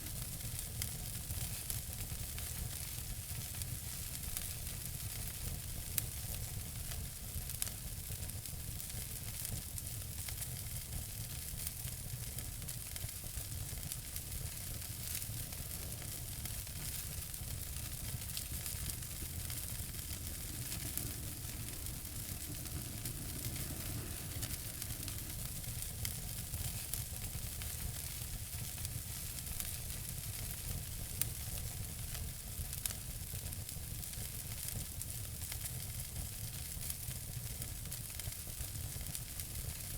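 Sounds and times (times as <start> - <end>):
wood fire crackling: 0.2 - 39.9.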